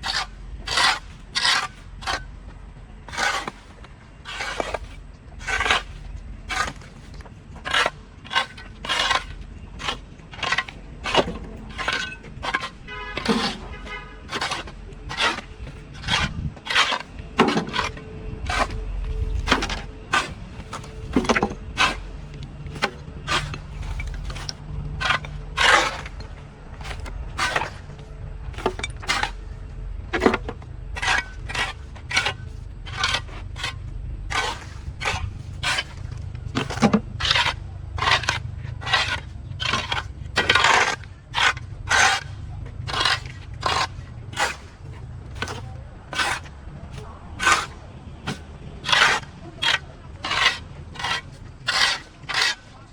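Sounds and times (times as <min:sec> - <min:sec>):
hand tool scraping ground: 0:00.0 - 0:02.3, 0:03.0 - 0:52.9.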